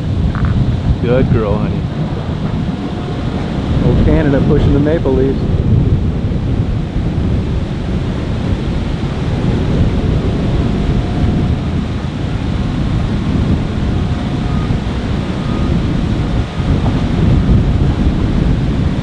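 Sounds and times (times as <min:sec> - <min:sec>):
choppy river water: 0:00.0 - 0:19.0
wind buffeting microphone: 0:00.0 - 0:19.0.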